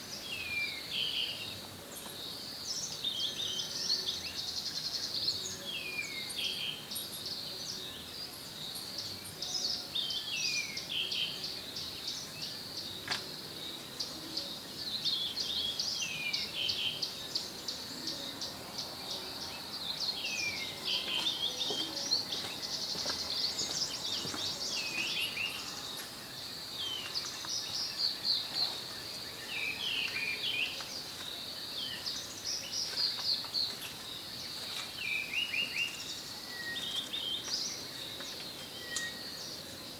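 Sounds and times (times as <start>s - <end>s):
birds chirping: 0.0s - 39.9s
insects droning: 0.0s - 39.9s.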